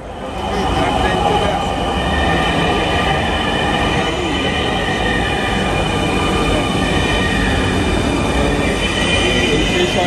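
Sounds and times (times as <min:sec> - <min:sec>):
train rumble: 0:00.0 - 0:10.0
train whine: 0:00.0 - 0:10.0.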